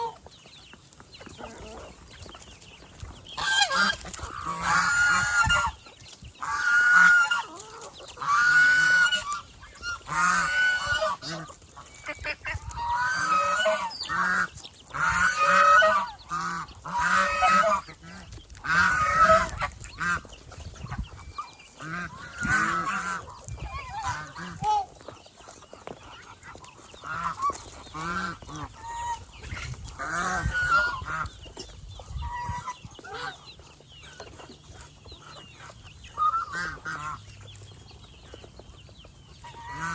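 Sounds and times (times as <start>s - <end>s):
geese honking: 3.3s - 38.4s, 39.3s - 39.9s.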